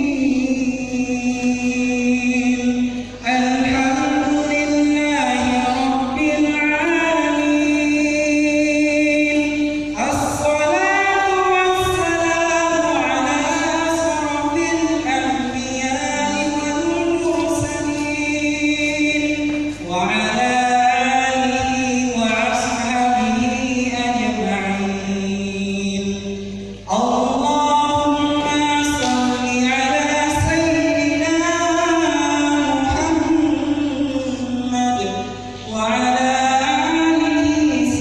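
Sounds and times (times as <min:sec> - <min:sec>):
man chanting a prayer: 0:00.0 - 0:38.0.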